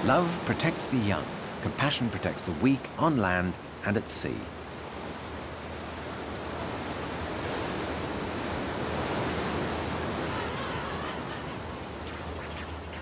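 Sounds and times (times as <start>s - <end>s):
sea surf washing: 0.0s - 13.0s.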